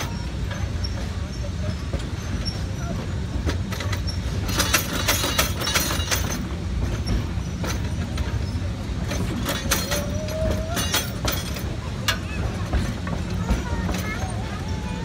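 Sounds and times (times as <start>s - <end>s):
knocks and rattles of railcar: 0.0s - 15.0s
train wheels rumbling: 0.0s - 15.0s.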